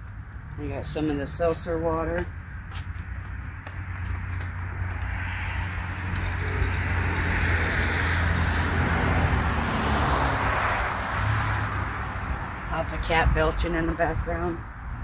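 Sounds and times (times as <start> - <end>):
vehicle tyre noise passing: 1.8 - 15.0.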